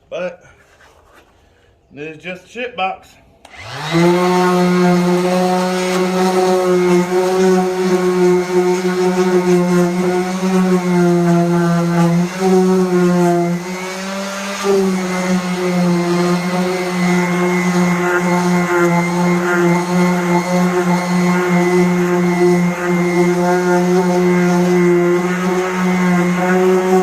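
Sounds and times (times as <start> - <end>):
electric sander on car paint: 3.5 - 27.0.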